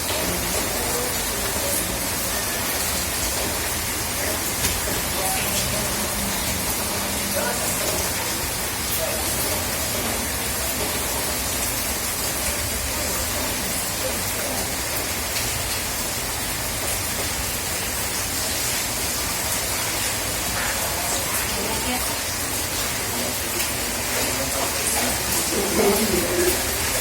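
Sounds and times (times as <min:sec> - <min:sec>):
raindrops ticking: 0:00.0 - 0:27.0
steady rain hiss: 0:00.0 - 0:27.0.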